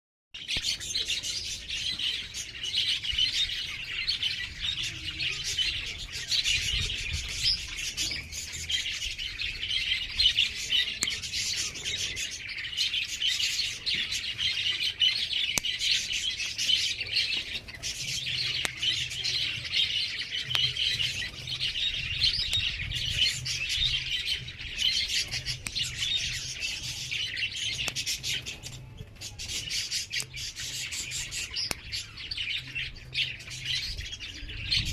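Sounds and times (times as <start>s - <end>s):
small birds chirping: 0.4s - 34.9s.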